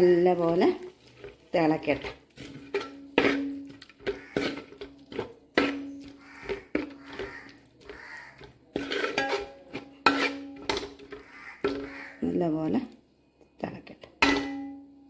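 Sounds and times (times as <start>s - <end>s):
spoon scraping metal pot: 0.0s - 12.6s.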